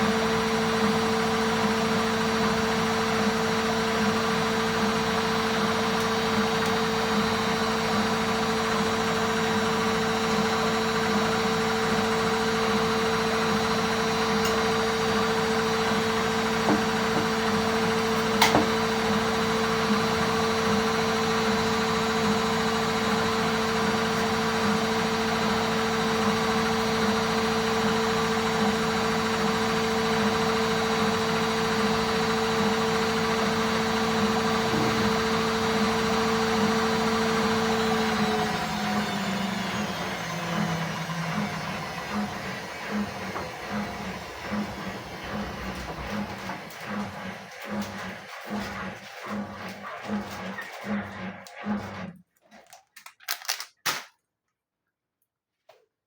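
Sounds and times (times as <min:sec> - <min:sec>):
washing machine spinning: 0:00.0 - 0:52.3.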